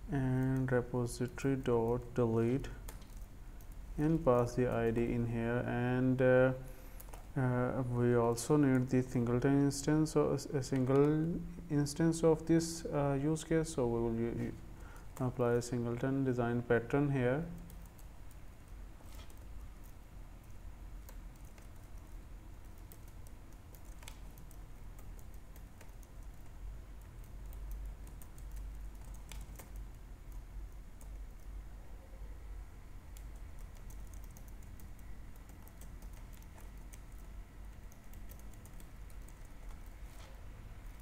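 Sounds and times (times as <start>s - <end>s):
low steady rumble: 0.0s - 41.0s.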